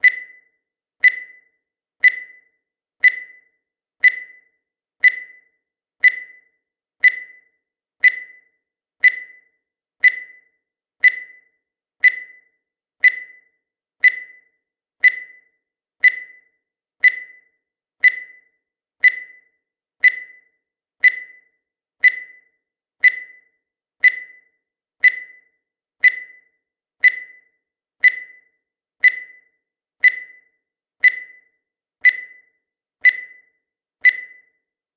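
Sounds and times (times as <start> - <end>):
timer ticking: 0.0 - 34.7.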